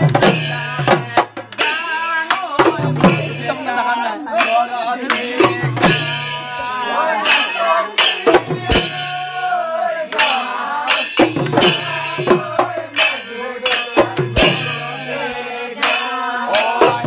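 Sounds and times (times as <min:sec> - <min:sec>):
drums and hand cymbals: 0:00.0 - 0:17.0
men singing and shouting: 0:00.0 - 0:17.0.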